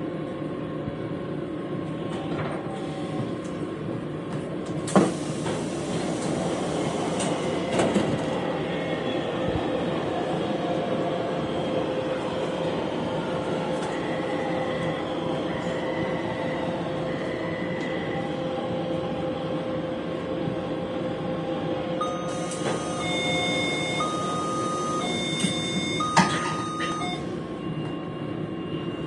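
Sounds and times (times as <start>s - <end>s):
train rumble and motor tone: 0.0s - 29.0s.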